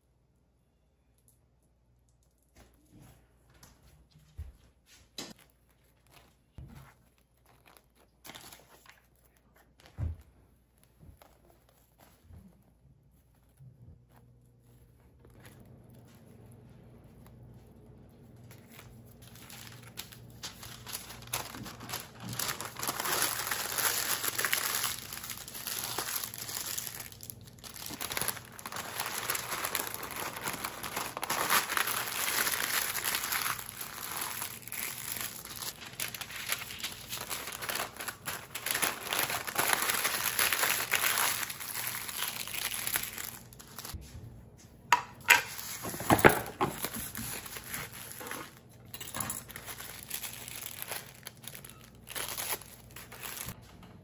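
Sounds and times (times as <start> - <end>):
paper crinkling and rustling: 5.0 - 44.0, 45.4 - 53.6.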